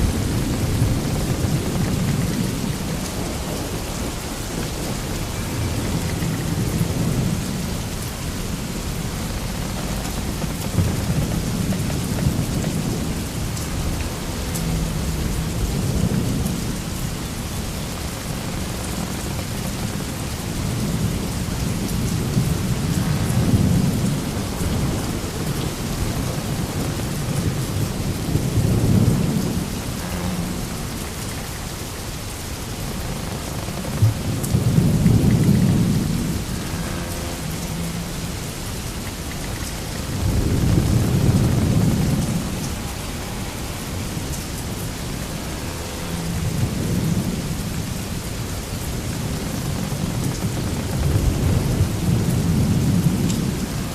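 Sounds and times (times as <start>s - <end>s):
steady rushing noise: 0.0s - 53.9s.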